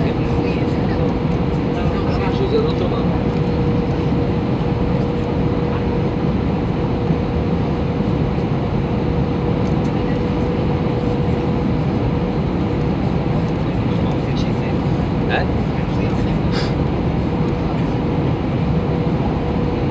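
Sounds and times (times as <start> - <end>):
airplane engines and airflow rushing: 0.0 - 19.9.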